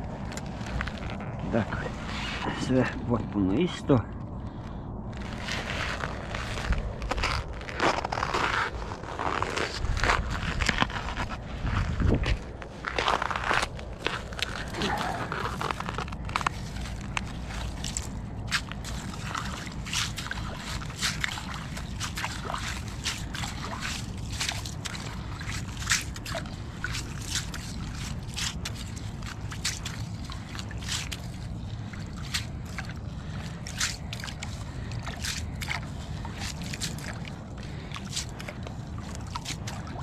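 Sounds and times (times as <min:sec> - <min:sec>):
low steady rumble: 0:00.0 - 0:40.0
water and slush sloshing: 0:00.0 - 0:40.0.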